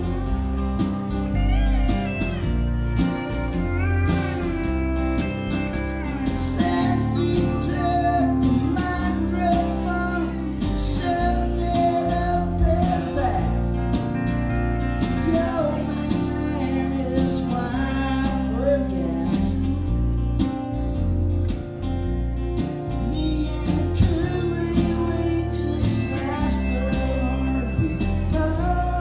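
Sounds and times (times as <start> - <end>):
steel guitar sliding: 0.0 - 29.0
strummed acoustic guitars: 0.0 - 29.0.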